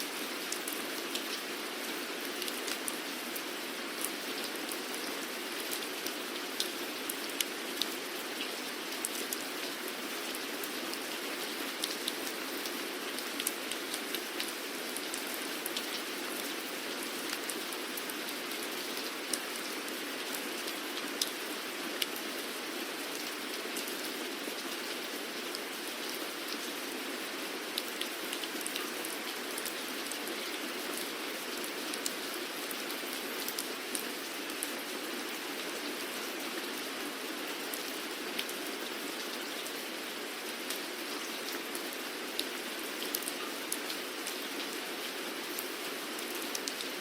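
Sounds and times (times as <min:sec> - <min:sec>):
steady rain hiss: 0:00.0 - 0:47.0.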